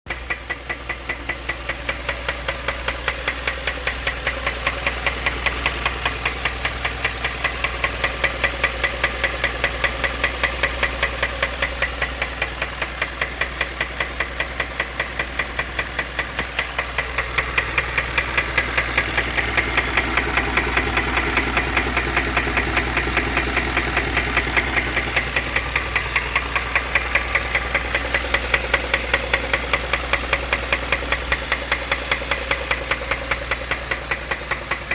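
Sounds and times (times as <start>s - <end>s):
car engine running: 0.1s - 34.9s
regular engine knock: 0.1s - 34.9s.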